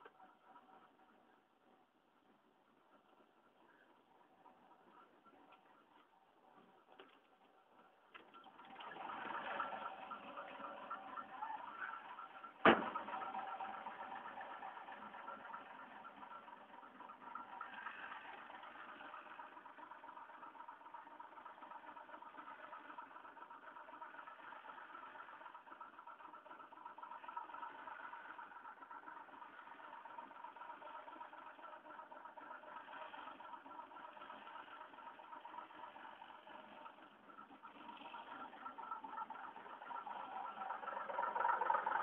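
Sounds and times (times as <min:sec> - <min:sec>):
diesel truck engine idling: 0:00.0 - 0:42.0.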